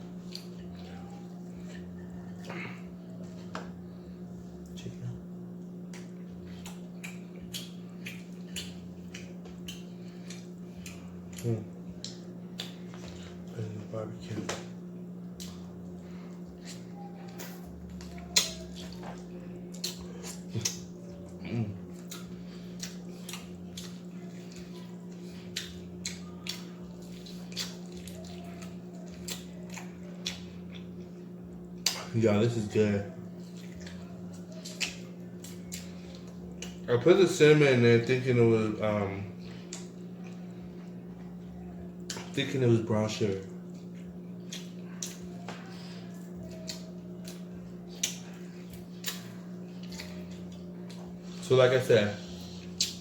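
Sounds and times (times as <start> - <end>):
chewing mouth sounds: 0.0 - 3.8, 4.4 - 13.6, 15.2 - 32.2, 33.2 - 36.9, 39.3 - 42.4, 43.4 - 51.4, 52.3 - 53.0
low electrical hum: 0.0 - 53.0.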